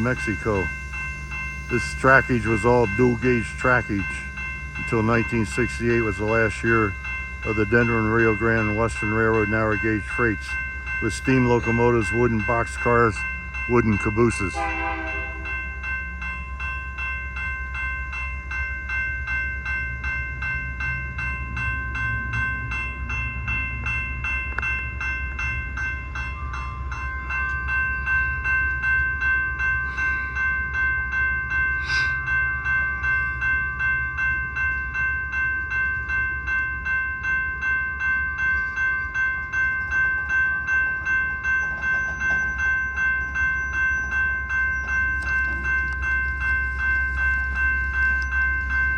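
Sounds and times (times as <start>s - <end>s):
bell ringing: 0.0s - 48.9s
diesel locomotives rumbling: 0.0s - 48.9s.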